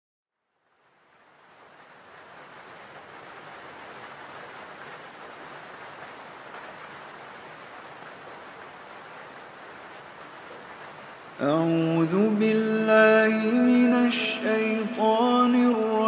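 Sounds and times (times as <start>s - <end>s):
steady rain falling: 0.4s - 16.0s.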